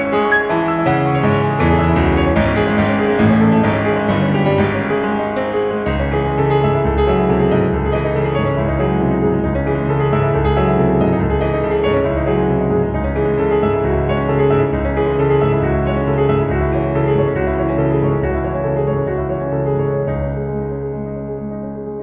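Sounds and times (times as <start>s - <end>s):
piano background music: 0.0s - 22.0s.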